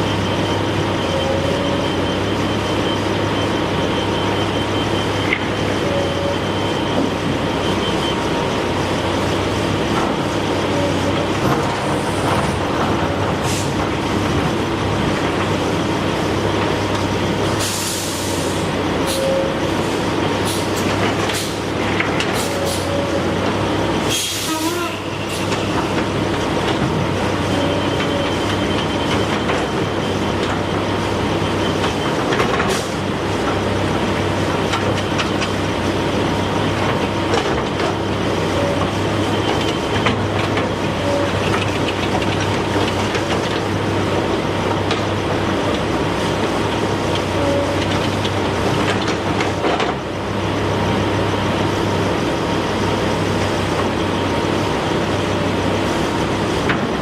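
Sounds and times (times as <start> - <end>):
heavy engine humming: 0.0 - 57.0.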